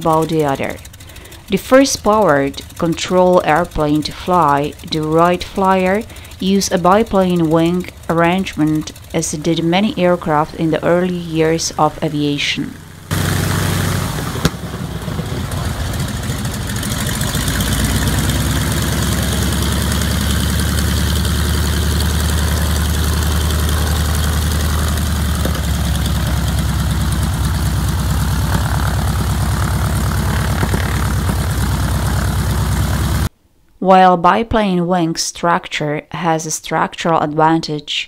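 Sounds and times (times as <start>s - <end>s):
radial aircraft engine idling: 0.0s - 33.3s.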